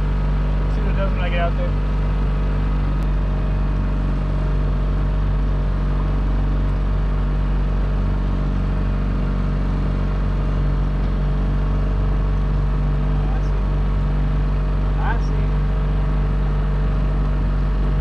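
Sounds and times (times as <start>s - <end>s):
outboard motor drone: 0.0s - 18.0s.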